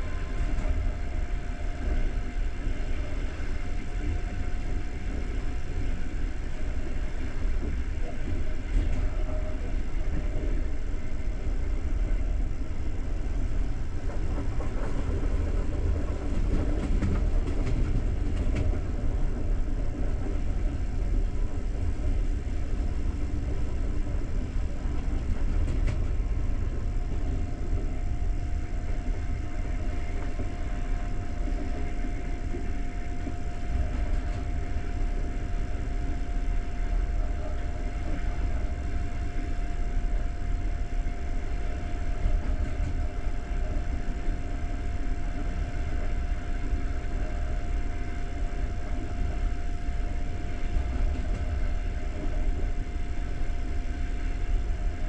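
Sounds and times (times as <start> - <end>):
faint steady whine: 0.0 - 55.0
train rumbling inside carriage: 0.0 - 55.0.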